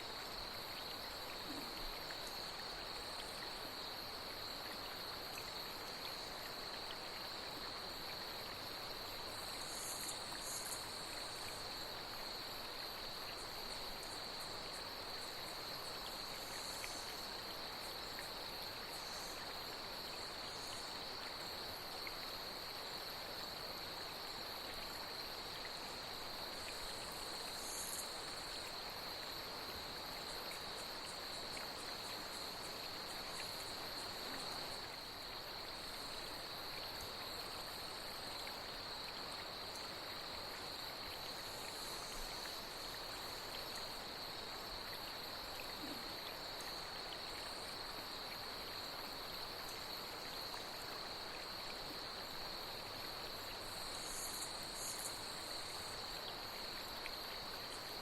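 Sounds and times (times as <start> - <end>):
flowing water: 0.0 - 58.0
night insects chirring: 0.0 - 58.0.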